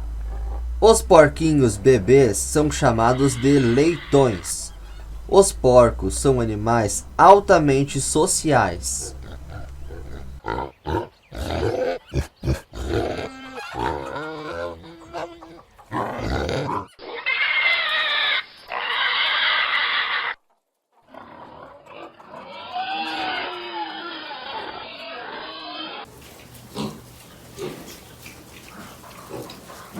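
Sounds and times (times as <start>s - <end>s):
pigs grunting: 0.0s - 20.4s, 21.0s - 29.9s
pigs squealing: 0.2s - 20.4s, 21.1s - 29.9s.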